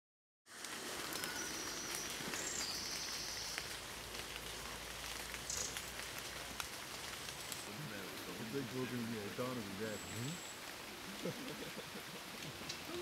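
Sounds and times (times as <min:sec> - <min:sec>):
rain falling: 0:00.5 - 0:13.0.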